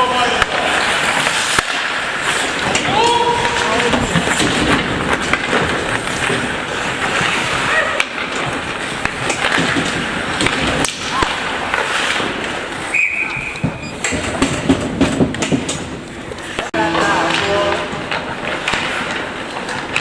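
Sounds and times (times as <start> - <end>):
skates scraping on ice: 0.0 - 20.0
sticks and puck clacking: 0.0 - 20.0.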